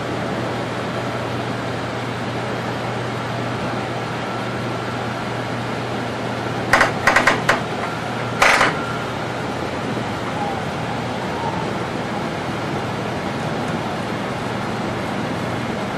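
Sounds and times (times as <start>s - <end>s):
train cab running hum: 0.0s - 15.9s.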